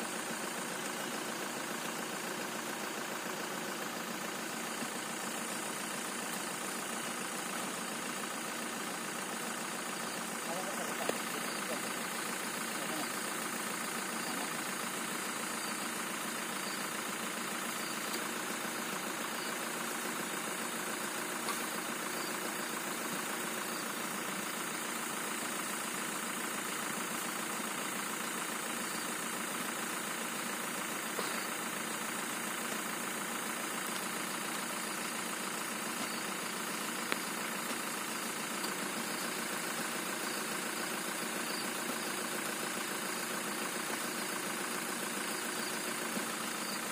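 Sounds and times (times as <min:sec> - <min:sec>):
vehicle engine idling: 0:00.0 - 0:46.9.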